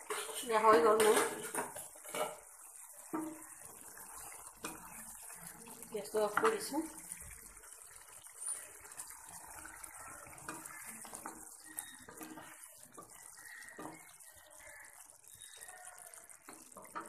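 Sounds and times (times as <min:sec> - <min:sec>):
curry bubbling in a frying pan: 0:00.0 - 0:17.0
spatula moving through sauce: 0:01.4 - 0:16.9.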